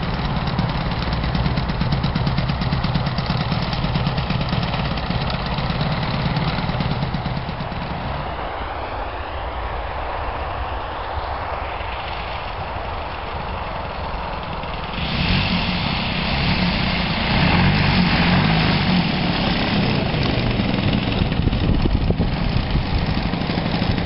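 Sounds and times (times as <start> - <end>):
propeller plane engine taxiing: 0.0 - 24.0.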